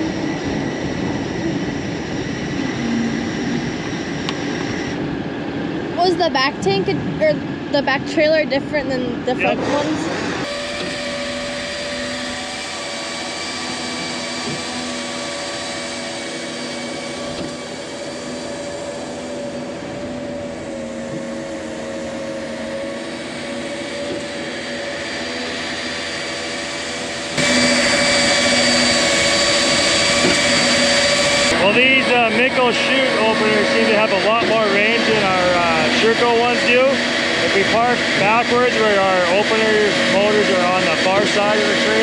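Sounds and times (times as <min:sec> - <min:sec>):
machine drone with whine: 0:00.0 - 0:42.0.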